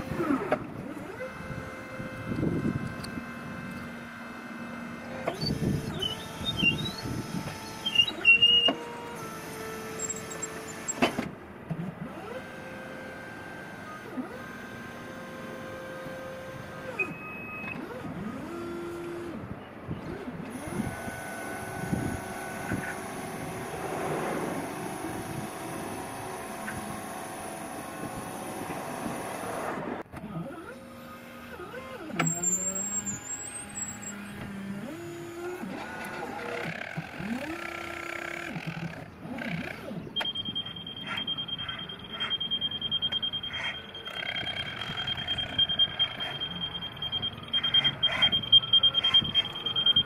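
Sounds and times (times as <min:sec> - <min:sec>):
electric-hydraulic crane whining: 0:00.0 - 0:11.4, 0:12.0 - 0:50.0.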